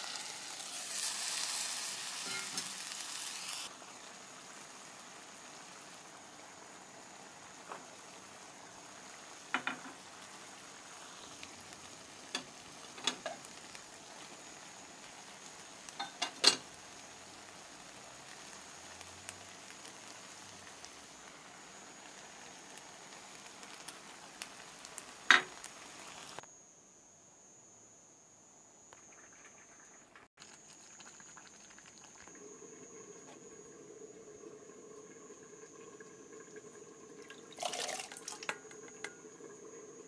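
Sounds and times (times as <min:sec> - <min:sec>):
food sizzling in a frying pan: 0:00.0 - 0:26.4, 0:29.0 - 0:40.0.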